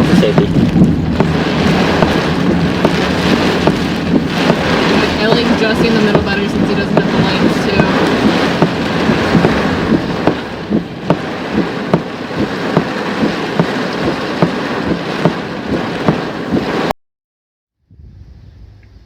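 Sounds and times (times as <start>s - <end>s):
tyres rain and wind rushing: 0.0s - 16.9s
sharp ticks and knocks: 0.2s - 16.7s.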